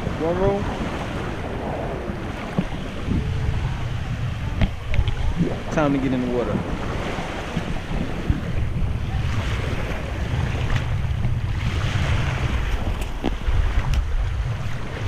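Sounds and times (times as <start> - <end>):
small waves breaking on beach: 0.0 - 15.0
wind buffeting microphone: 0.0 - 15.0.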